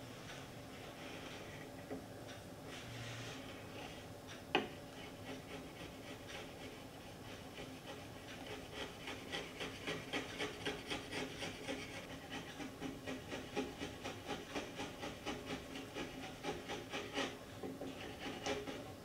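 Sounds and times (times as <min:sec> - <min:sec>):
chisel scraping shaves: 0:03.1 - 0:19.0.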